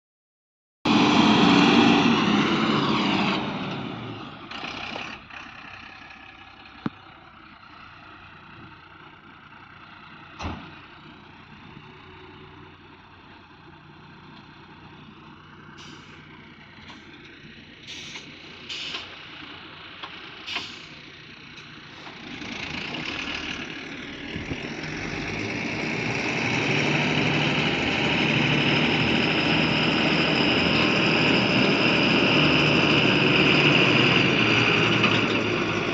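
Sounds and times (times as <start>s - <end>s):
diesel truck engine running: 0.9s - 35.9s.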